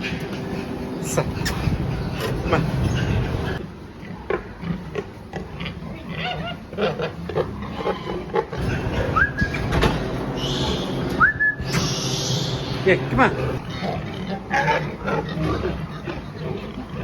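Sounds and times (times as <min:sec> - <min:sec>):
pigs grunting: 0:00.0 - 0:17.0
steady low hum: 0:00.0 - 0:17.0.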